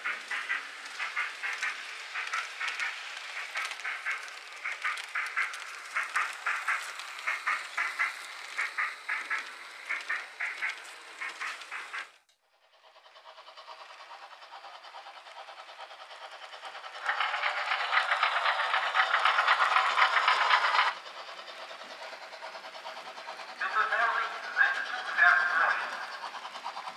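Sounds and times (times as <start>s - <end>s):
model train wheels clicking: 0.0s - 26.9s
steady whirring: 0.0s - 26.9s.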